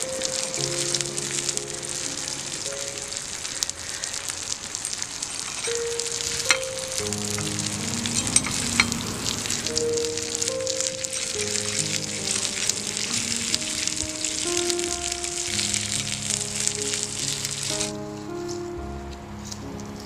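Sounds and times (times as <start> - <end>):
soft background music: 0.0 - 4.9, 5.6 - 20.0
fish sizzling in hot oil: 0.0 - 18.0.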